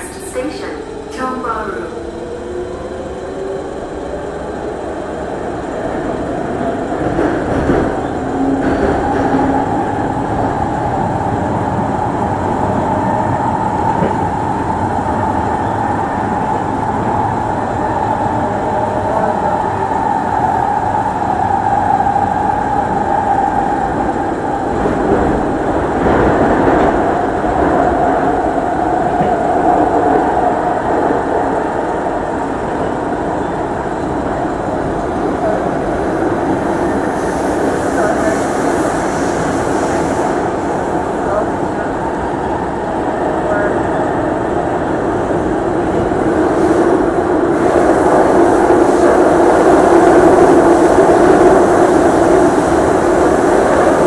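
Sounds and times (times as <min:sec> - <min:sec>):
train rumble and whine: 0:00.0 - 0:54.0.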